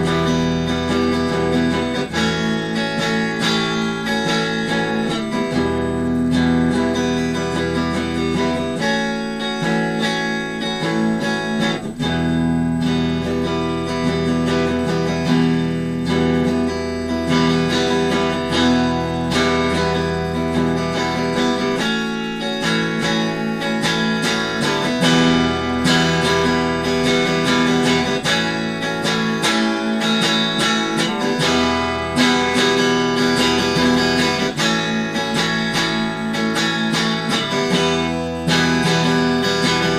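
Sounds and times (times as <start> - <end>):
strummed electric guitar chords: 0.0 - 39.9.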